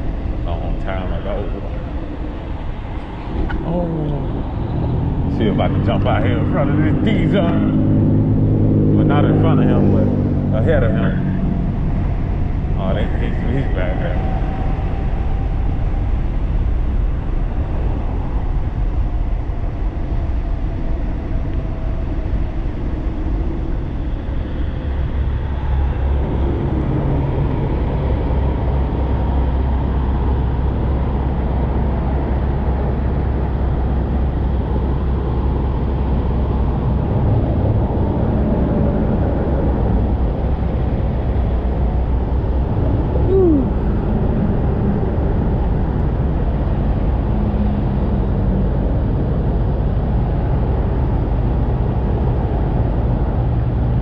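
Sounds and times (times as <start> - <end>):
road and traffic noise: 0.0 - 54.0
wind rushing over microphone: 0.0 - 54.0.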